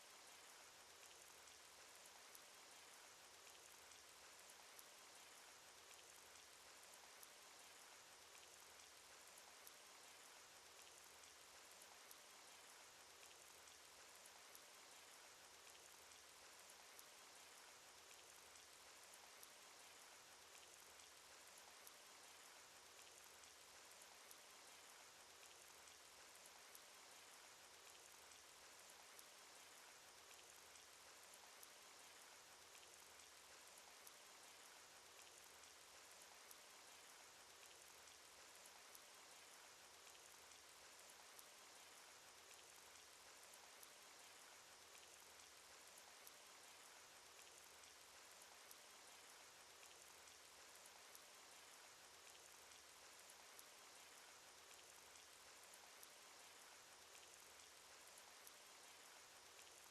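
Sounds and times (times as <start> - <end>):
rain hiss: 0.0 - 59.9
raindrop ticks: 0.1 - 59.9.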